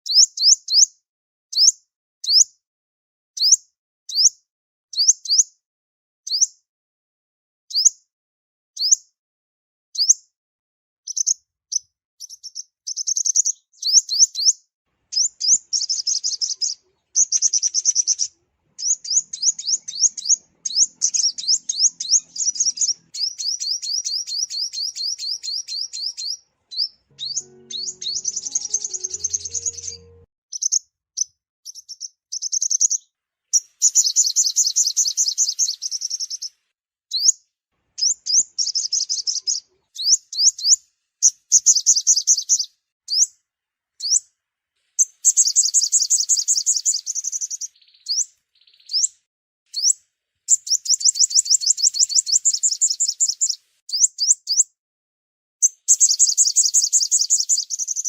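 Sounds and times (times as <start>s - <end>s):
sunbird song with chirps and trills: 0.0s - 0.9s, 1.5s - 2.5s, 3.4s - 5.5s, 6.3s - 6.6s, 7.7s - 8.0s, 8.8s - 9.1s, 10.0s - 10.2s, 11.1s - 43.4s, 44.0s - 54.8s, 55.6s - 58.0s.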